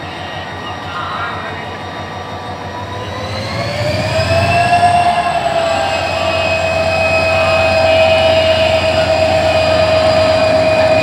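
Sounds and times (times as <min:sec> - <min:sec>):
diesel locomotive engine rumble: 0:00.0 - 0:11.0
turbocharger whine: 0:00.0 - 0:11.0.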